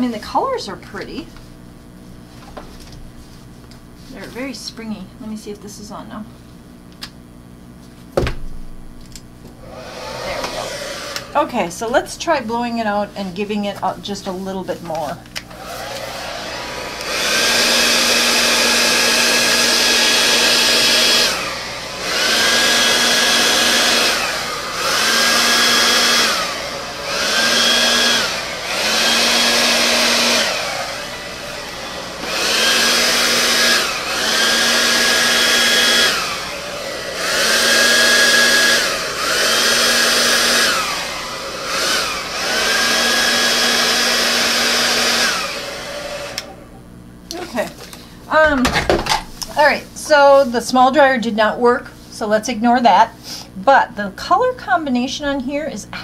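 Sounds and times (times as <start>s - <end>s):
hair dryer blowing: 4.0s - 4.9s, 9.5s - 53.5s.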